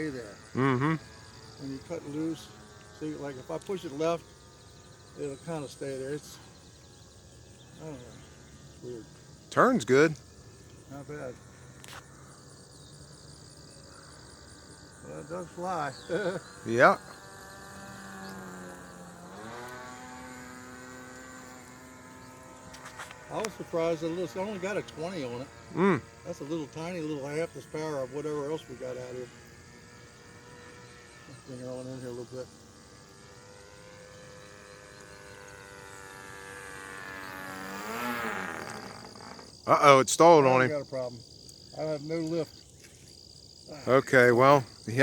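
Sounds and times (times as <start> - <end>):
model airplane engine buzzing: 0.0 - 45.0.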